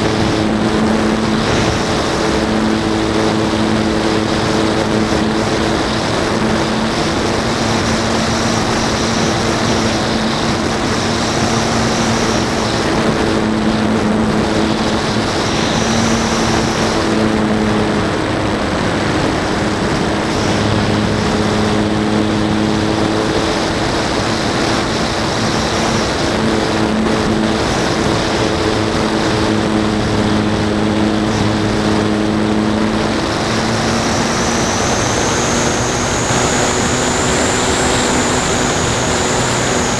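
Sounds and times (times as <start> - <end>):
model plane motor and propeller: 0.0 - 39.9
thin high whine: 0.0 - 39.9
wind rushing over microphone: 0.0 - 39.9.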